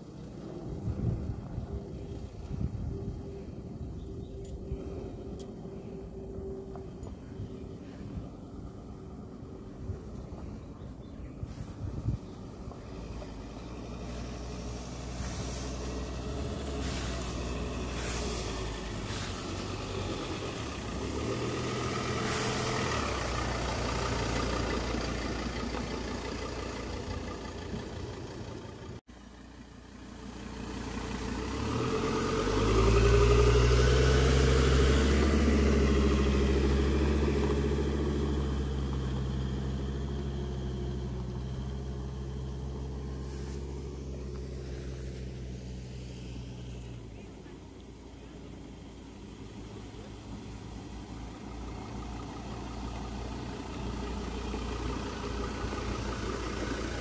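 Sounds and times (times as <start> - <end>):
diesel engine running at low speed: 0.0 - 57.0.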